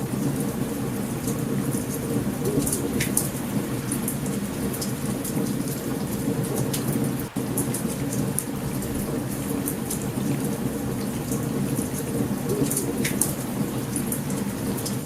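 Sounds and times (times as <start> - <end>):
campfire crackling: 0.0 - 15.0
heavy rain: 0.0 - 15.0
thunder rumbling: 0.0 - 15.0.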